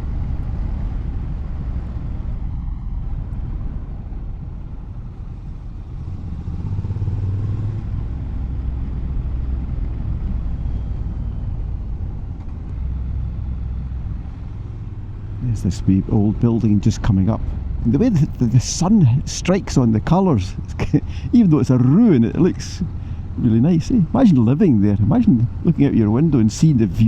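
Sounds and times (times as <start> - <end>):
motorcycle engine riding: 0.0 - 27.0
road noise: 0.0 - 27.0.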